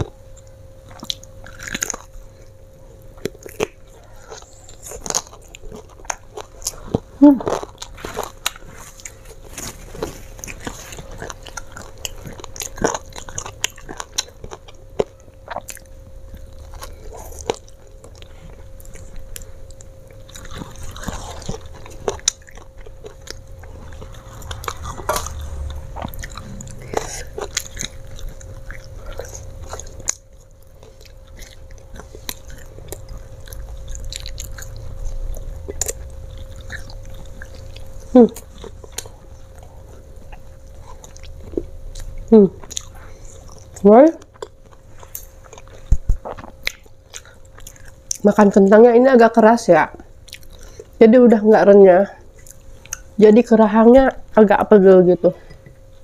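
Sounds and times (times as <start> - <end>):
chewing crunchy fried potato sticks: 0.0 - 54.8.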